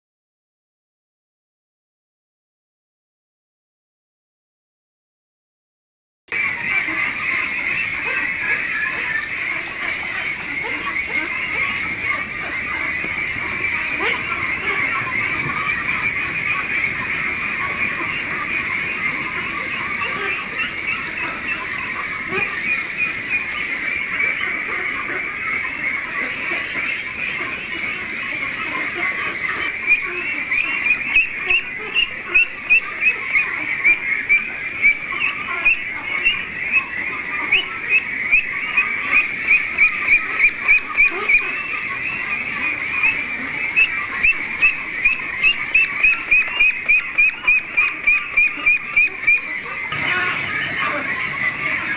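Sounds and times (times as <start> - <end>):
flock of ducks quacking: 6.3 - 51.9.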